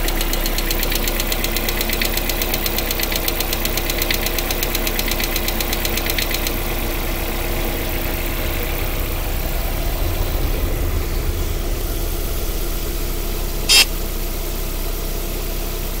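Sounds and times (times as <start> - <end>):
car engine idling: 0.0 - 16.0
rapid engine tapping: 0.0 - 16.0.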